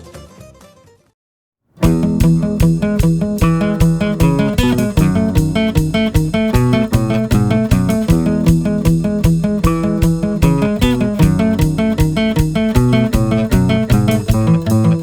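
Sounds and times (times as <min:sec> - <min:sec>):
strummed guitar music: 0:01.8 - 0:15.0.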